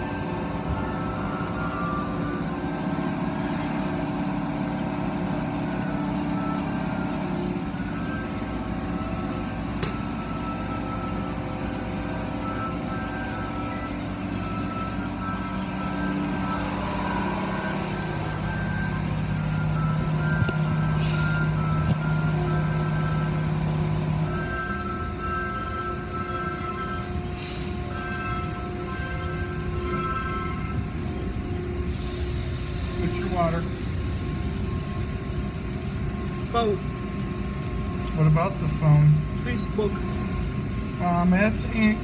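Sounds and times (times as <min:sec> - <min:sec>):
car wash machinery hum: 0:00.0 - 0:42.0.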